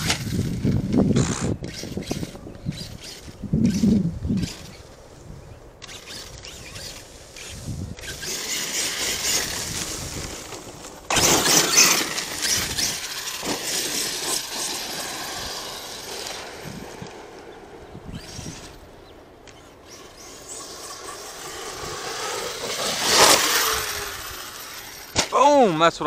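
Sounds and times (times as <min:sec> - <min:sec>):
rc truck motor running: 0:00.0 - 0:04.9, 0:05.8 - 0:25.2
tyres on dirt and grass: 0:00.0 - 0:26.0.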